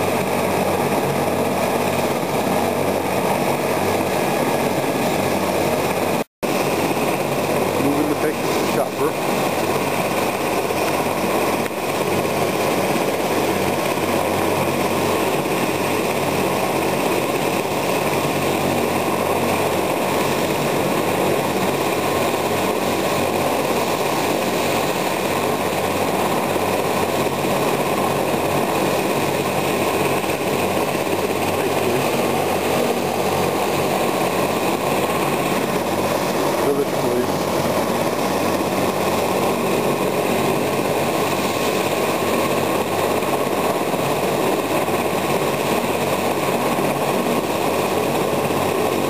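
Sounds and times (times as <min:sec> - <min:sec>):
helicopter engine and rotor: 0:00.0 - 0:49.0.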